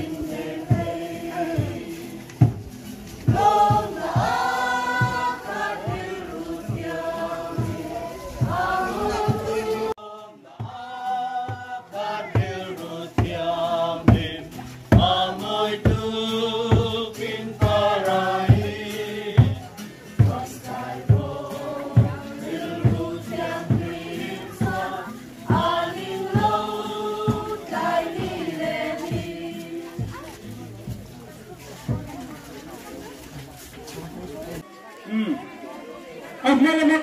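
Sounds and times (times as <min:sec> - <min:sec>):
steady drumbeat: 0:00.0 - 0:09.9, 0:10.6 - 0:32.4
group singing a hymn: 0:00.0 - 0:30.6.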